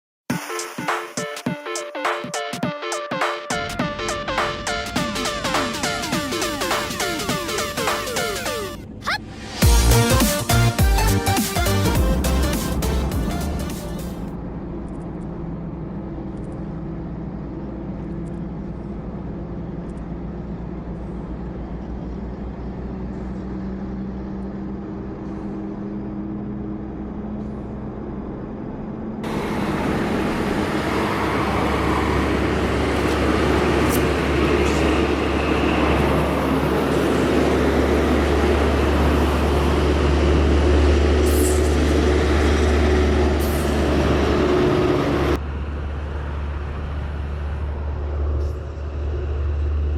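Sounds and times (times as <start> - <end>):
road noise: 3.2 - 49.9
bus engine hum: 3.4 - 49.9.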